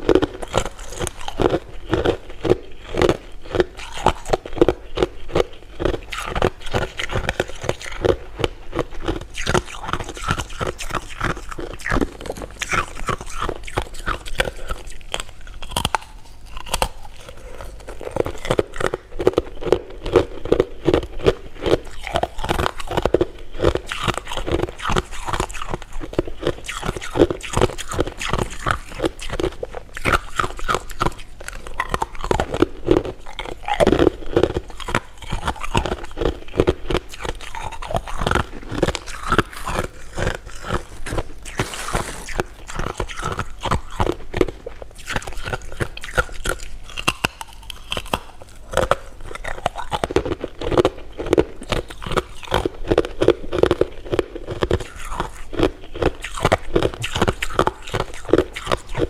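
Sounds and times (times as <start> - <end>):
chewing candy with mouth smacks: 0.0 - 59.0.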